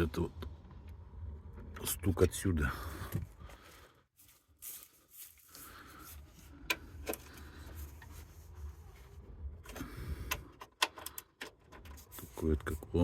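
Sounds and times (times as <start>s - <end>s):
handling rumble and rustling: 0.0s - 13.0s.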